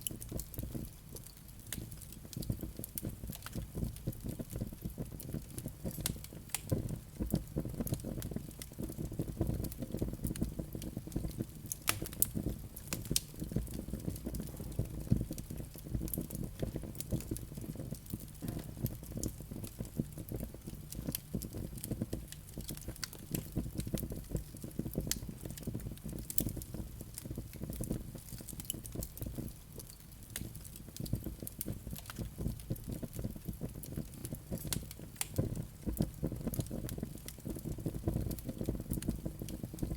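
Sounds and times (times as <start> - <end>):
fireplace fire crackling: 0.0 - 39.9
low rumble of flames: 0.0 - 39.9
sharp pops and snaps: 0.0 - 39.9.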